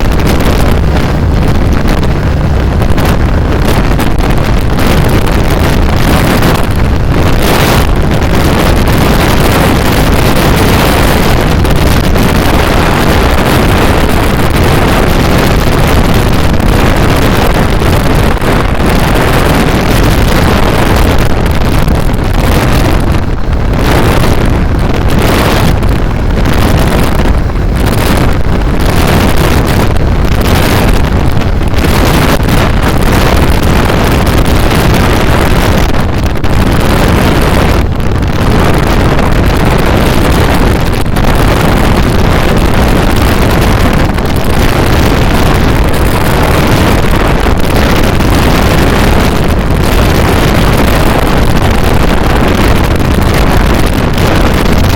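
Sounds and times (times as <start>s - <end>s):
motorcycle engine running hard: 0.0s - 54.9s
wind buffeting microphone: 0.0s - 54.9s.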